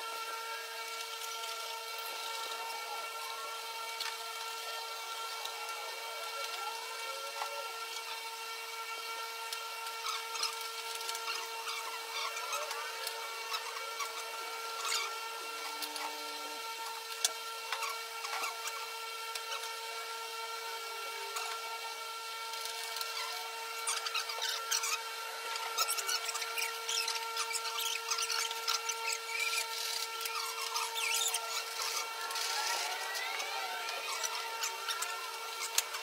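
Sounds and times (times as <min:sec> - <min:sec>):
steady high hum: 0:00.0 - 0:36.0.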